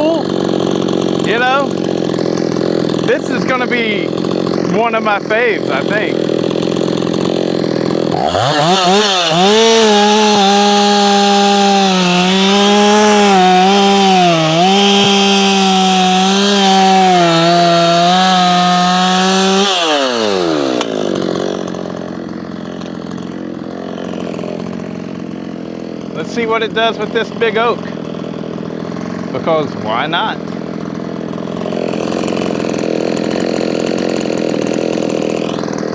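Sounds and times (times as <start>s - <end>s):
chainsaw revving: 0.0s - 35.9s.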